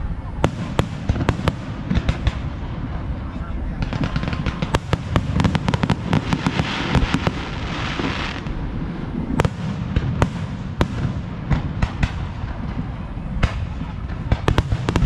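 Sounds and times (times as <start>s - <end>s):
fireworks crackling hiss: 0.0s - 15.0s
fireworks bangs: 0.2s - 15.0s.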